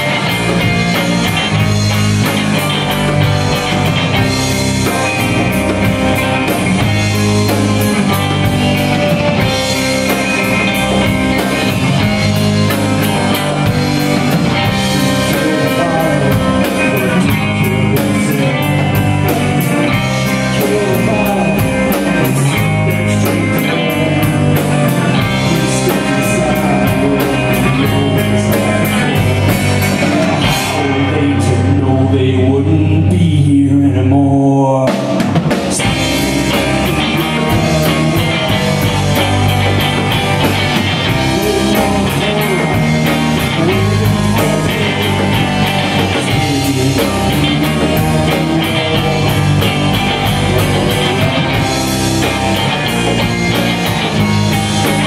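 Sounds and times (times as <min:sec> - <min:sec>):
drum kit: 0:00.0 - 0:33.5, 0:34.4 - 0:55.0
electric bass: 0:00.0 - 0:55.0
electric guitars: 0:00.0 - 0:55.0
lead vocal singing: 0:03.7 - 0:55.0.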